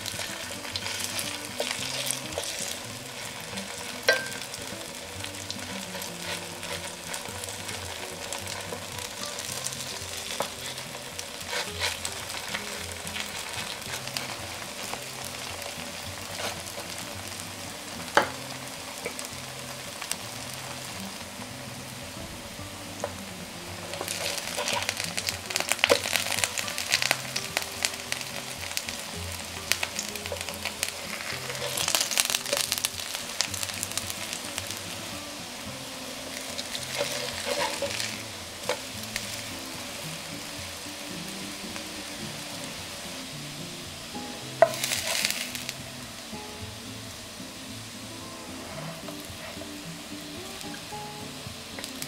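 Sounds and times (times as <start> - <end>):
pancakes sizzling in oil: 0.0 - 52.0
soft background music: 0.0 - 52.0.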